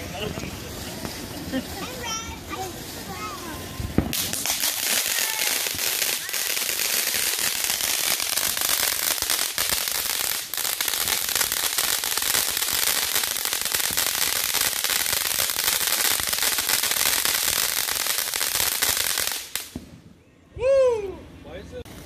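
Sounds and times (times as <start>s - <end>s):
firework fountain crackling: 0.0s - 20.2s, 21.8s - 22.0s.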